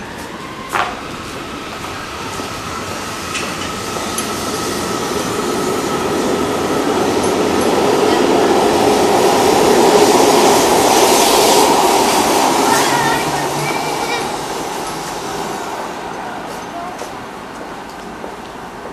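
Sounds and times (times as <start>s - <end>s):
train pulling out: 0.0s - 18.9s.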